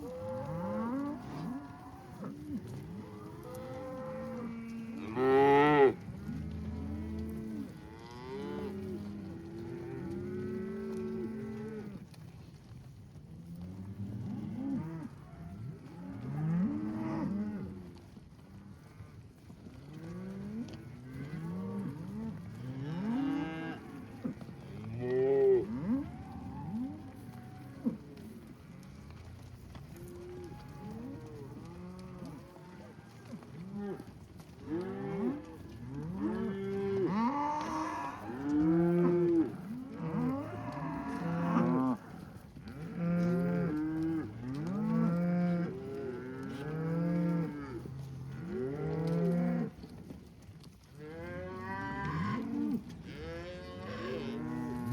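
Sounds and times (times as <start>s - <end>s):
cows mooing: 0.0s - 12.0s, 20.0s - 50.0s, 51.0s - 54.9s.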